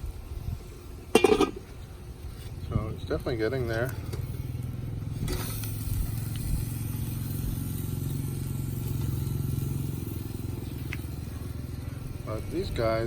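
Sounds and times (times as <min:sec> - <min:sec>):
small engine running: 0:02.4 - 0:13.0.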